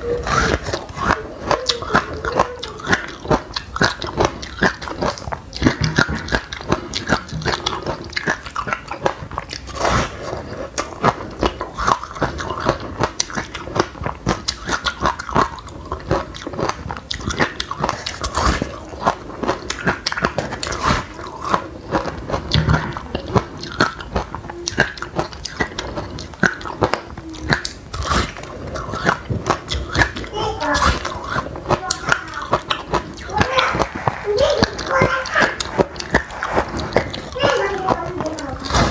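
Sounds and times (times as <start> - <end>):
crunching and chewing: 0.0 - 38.9.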